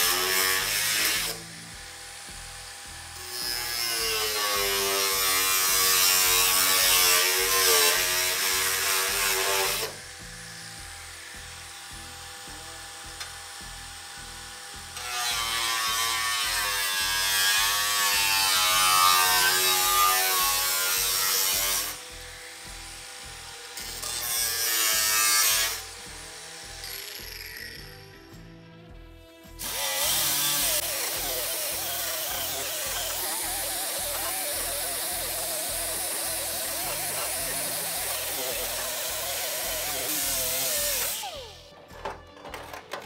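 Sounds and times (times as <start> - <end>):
angle grinder cutting sheet steel: 0.0 - 28.1, 29.6 - 43.0.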